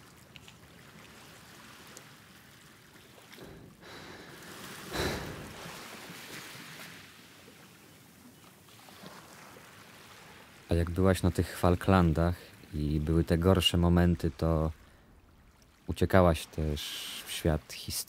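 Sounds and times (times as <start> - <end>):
sea waves breaking: 0.0 - 17.8.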